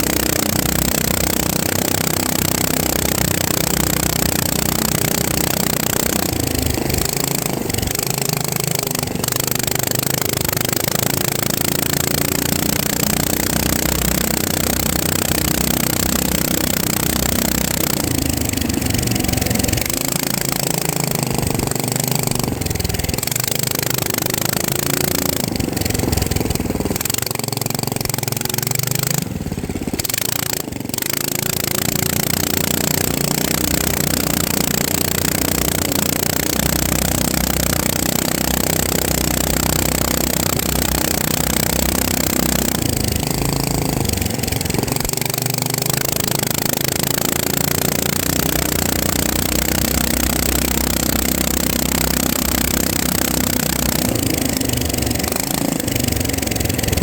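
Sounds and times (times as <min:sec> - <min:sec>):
drone motors and propellers buzzing: 0:00.0 - 0:57.0.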